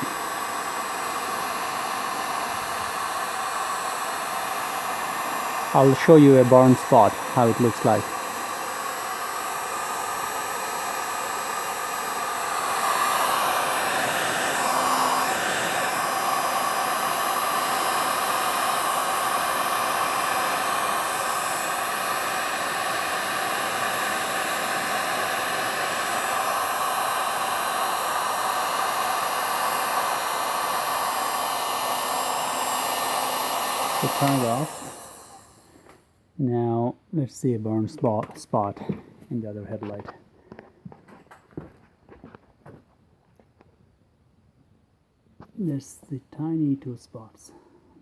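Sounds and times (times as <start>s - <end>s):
heat gun fan blowing: 0.0s - 42.9s.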